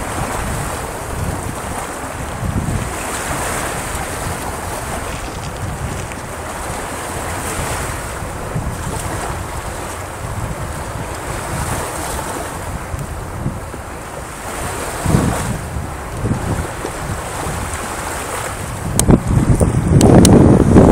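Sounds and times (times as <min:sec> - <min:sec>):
surf breaking on beach: 0:00.0 - 0:20.9
wind buffeting microphone: 0:00.0 - 0:20.9.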